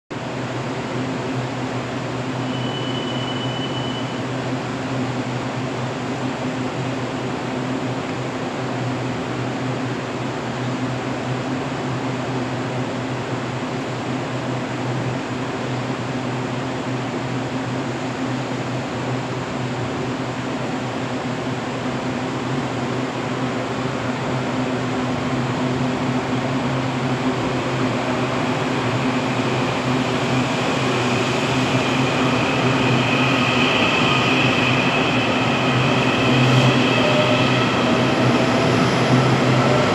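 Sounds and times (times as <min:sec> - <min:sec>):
high whine of train: 0:00.1 - 0:39.9
electric train hum: 0:00.2 - 0:39.9.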